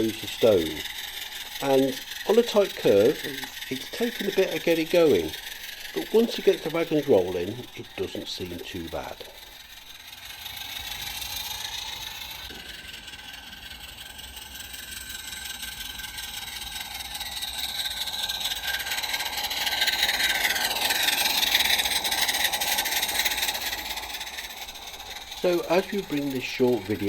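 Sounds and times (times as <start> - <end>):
model train wheels whining on rail: 0.0 - 27.0.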